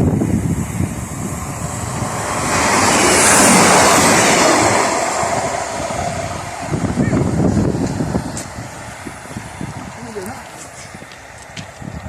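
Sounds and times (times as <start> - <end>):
vehicle passing close by: 0.0 - 12.0
wind rumble on microphone: 0.0 - 12.0.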